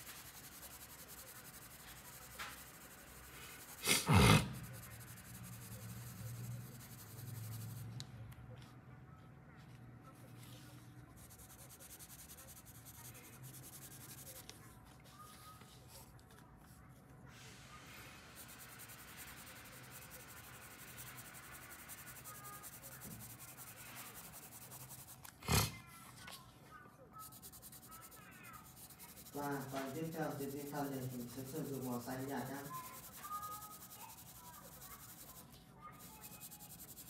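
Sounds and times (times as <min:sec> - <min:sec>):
pencil scratching on paper: 0:00.0 - 0:08.0, 0:10.1 - 0:16.8, 0:17.8 - 0:25.7, 0:27.2 - 0:37.0.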